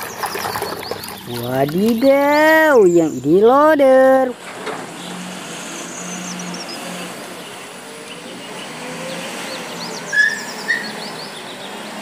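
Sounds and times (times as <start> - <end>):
small birds chirping: 0.0 - 3.9, 5.0 - 12.0.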